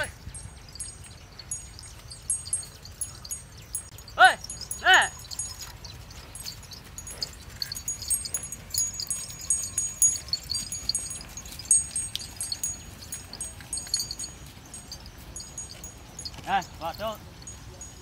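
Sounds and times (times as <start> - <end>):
small metal bells jingling: 0.0 - 18.0.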